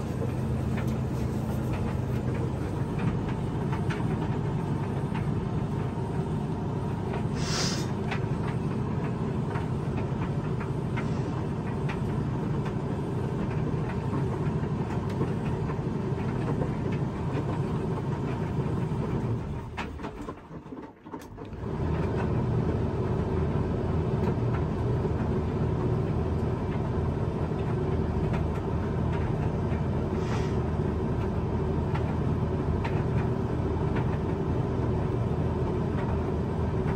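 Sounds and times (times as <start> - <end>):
tumble dryer drum rumble: 0.0 - 36.9.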